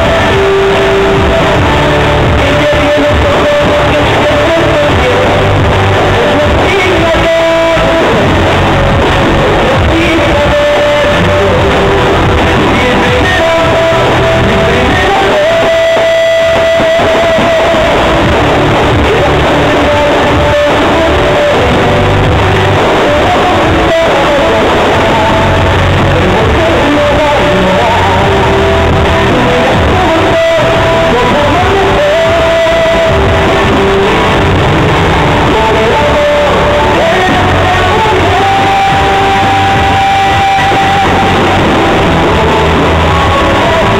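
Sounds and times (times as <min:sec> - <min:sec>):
music with long held melody notes: 0:00.0 - 0:43.9.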